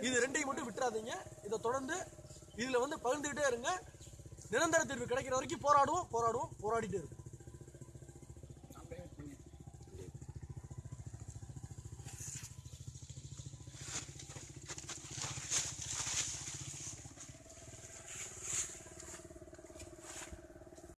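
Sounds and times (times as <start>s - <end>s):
engine running with low throb: 0.0s - 20.9s
steady hum: 0.0s - 20.9s.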